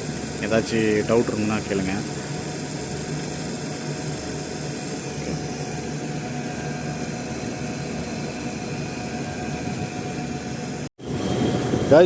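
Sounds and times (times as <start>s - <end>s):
air conditioning equipment humming: 0.0s - 12.0s.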